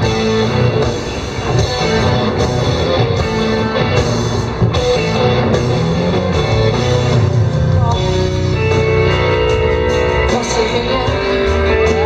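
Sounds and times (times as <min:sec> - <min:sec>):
bass guitar: 0:00.0 - 0:12.0
drum kit steady beat: 0:00.0 - 0:12.0
electric guitars: 0:00.0 - 0:12.0.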